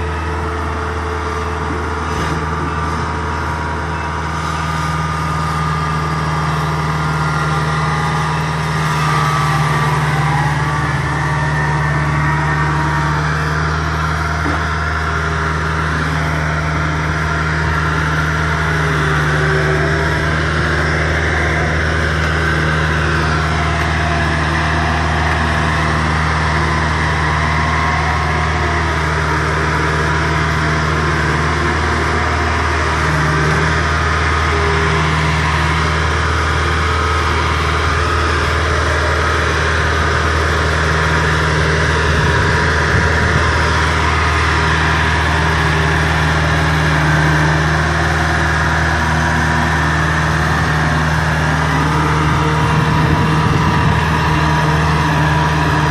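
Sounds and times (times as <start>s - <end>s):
diesel engine running: 0.0s - 55.9s
machinery whirring: 0.0s - 55.9s.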